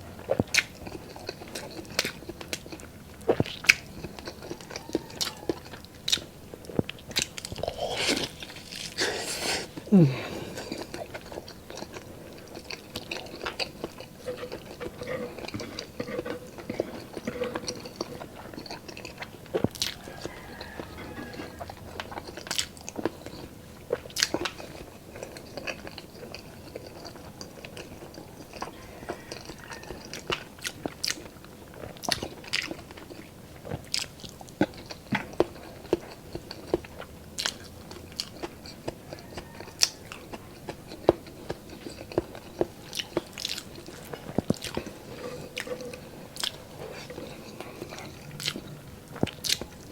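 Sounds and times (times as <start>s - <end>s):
person chewing and biting: 0.2s - 49.9s.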